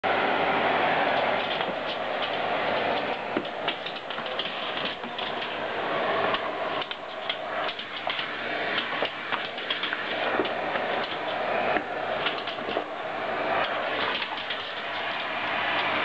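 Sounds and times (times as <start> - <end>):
vacuum cleaner running: 0.0 - 16.0
dog claws clicking on wooden floor: 1.1 - 5.6, 6.3 - 12.9, 13.6 - 16.0.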